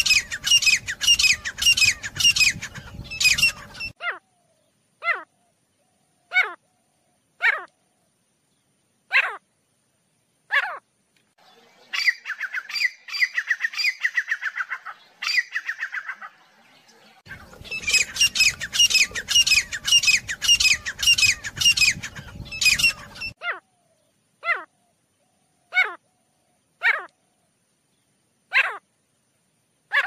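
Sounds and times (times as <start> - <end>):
francolin calling: 0.0 - 8.2, 10.5 - 16.5, 17.3 - 27.6.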